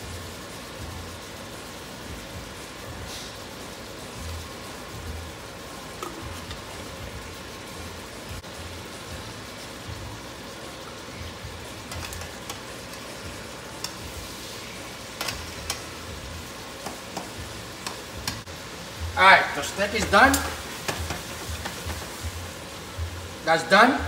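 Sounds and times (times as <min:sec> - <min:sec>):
steaks sizzling in a skillet: 0:00.0 - 0:24.0.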